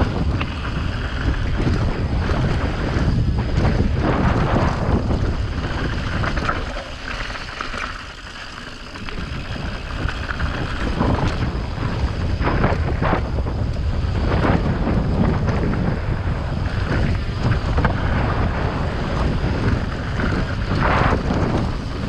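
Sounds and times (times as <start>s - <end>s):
wind buffeting microphone: 0.0s - 8.1s, 8.8s - 22.0s
bike knocks and rattles: 0.0s - 22.0s
tyres rolling over dirt and rocks: 0.0s - 22.0s.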